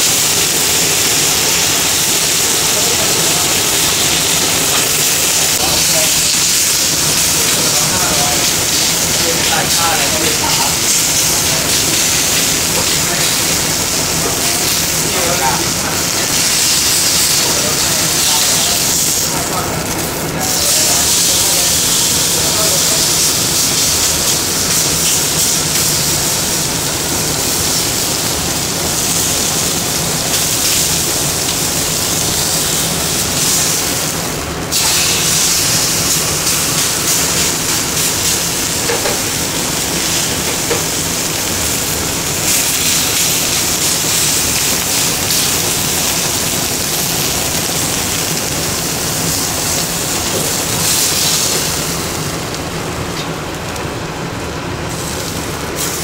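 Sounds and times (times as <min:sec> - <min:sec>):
steak sizzling in a pan: 0:00.0 - 0:53.8, 0:54.9 - 0:56.0.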